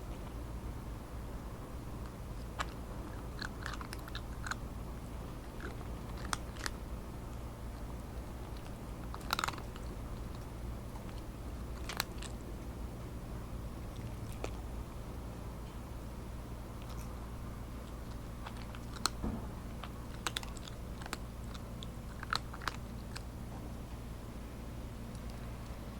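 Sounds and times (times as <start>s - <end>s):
steady low hum: 0.0s - 25.9s
cat crunching dry kibble: 1.7s - 23.5s.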